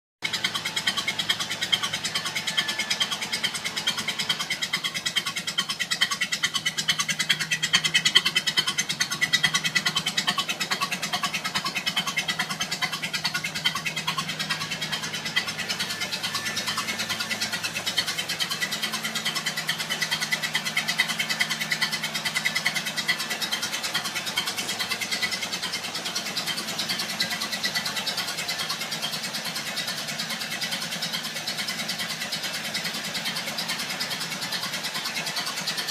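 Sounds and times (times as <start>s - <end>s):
car engine idling: 0.2s - 35.9s.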